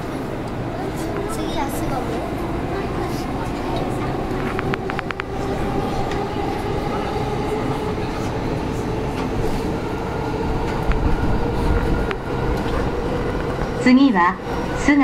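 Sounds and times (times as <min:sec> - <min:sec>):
electric train traction hum: 0:00.0 - 0:15.0
wheel and rail rumble: 0:00.0 - 0:15.0.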